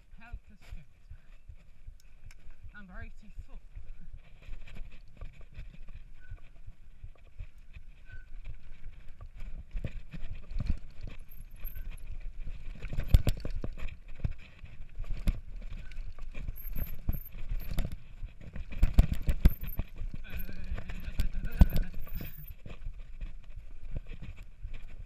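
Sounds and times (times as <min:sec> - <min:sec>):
low wind rumble: 0:00.0 - 0:25.0
tyres on dirt: 0:00.0 - 0:25.0
mountain bike rattling and knocking: 0:03.7 - 0:25.0.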